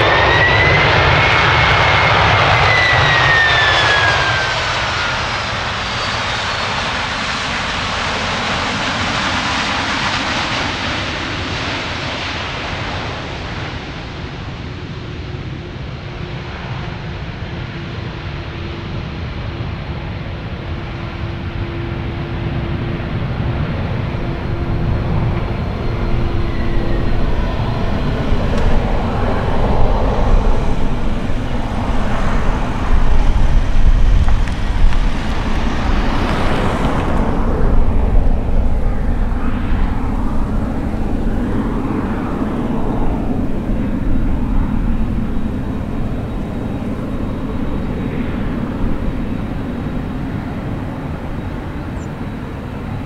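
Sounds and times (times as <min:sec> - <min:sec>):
jet engines rumbling on landing: 0:00.0 - 0:53.0.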